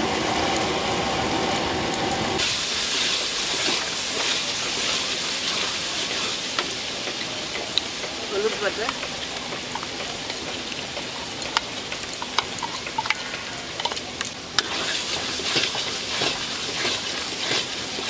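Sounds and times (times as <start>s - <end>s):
spice paste sizzling in oil: 2.4s - 18.0s.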